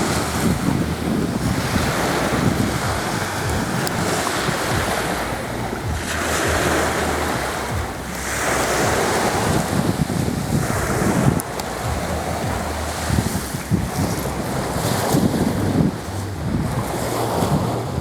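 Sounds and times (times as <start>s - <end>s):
sea waves washing on shore: 0.0s - 18.0s
wind buffeting microphone: 0.0s - 18.0s.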